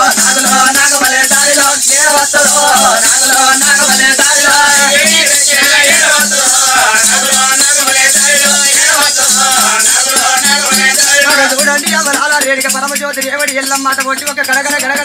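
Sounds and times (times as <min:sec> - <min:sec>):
jingling metal percussion: 0:00.0 - 0:15.0.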